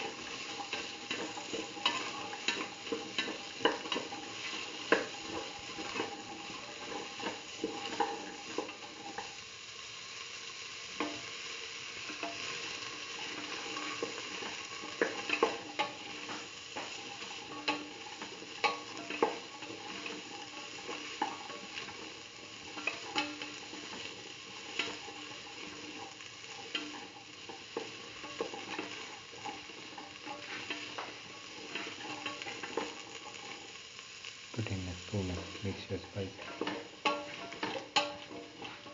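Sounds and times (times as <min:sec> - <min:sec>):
vegetables sizzling in oil: 0:00.0 - 0:38.9.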